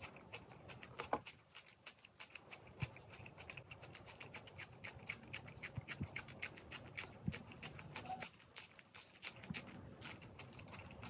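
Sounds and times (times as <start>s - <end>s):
crunching and chewing cucumber: 0.0s - 11.0s.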